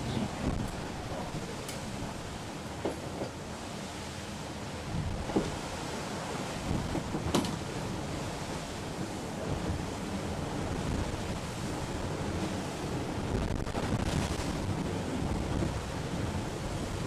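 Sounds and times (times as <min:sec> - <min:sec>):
sea water rushing along hull: 0:00.0 - 0:17.0.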